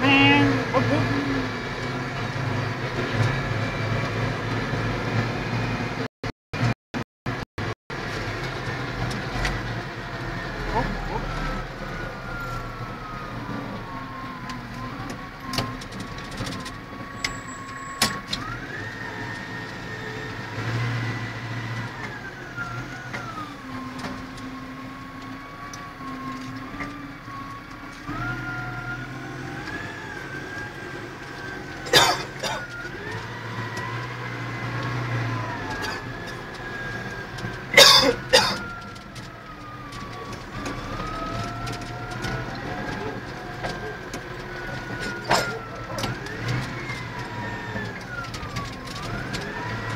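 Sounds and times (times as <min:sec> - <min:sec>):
engine whine: 0:00.0 - 0:06.7, 0:07.3 - 0:49.9
tractor diesel engine humming: 0:07.3 - 0:49.9.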